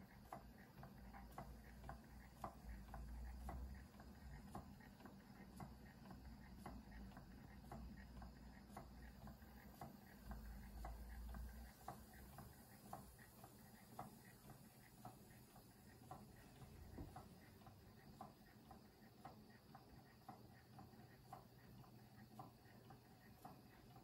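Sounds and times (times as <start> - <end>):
steam engine ticking: 0.0 - 24.0.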